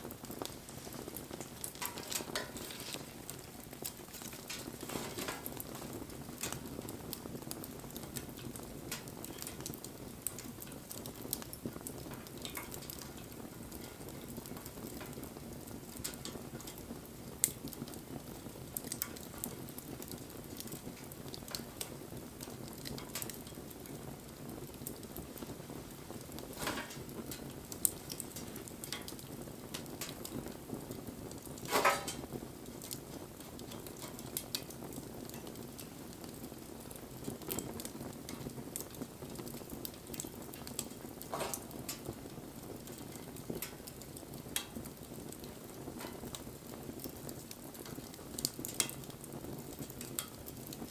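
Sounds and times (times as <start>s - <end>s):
fire crackles and pops: 0.0s - 50.9s
fire hissing: 0.0s - 50.9s
low rush of flame: 0.0s - 50.9s.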